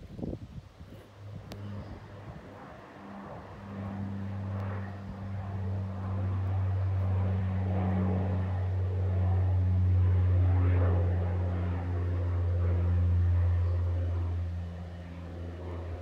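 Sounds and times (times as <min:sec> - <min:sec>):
low engine drone: 0:01.0 - 0:16.0.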